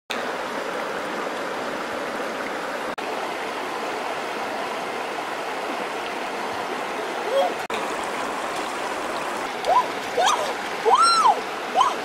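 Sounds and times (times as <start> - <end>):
river water rushing: 0.1 - 12.0.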